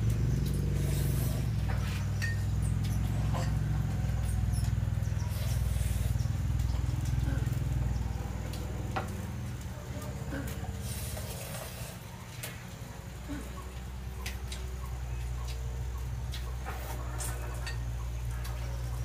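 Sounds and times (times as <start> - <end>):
faint squeaks and clicks: 0.0 - 19.0.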